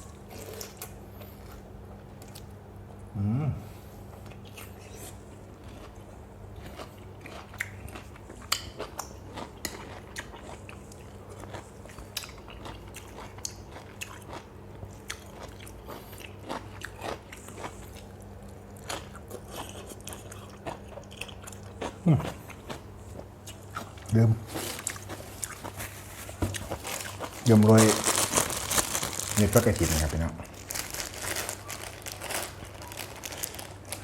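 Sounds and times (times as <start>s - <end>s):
person chewing crunchy food: 0.0s - 2.5s, 4.2s - 34.0s.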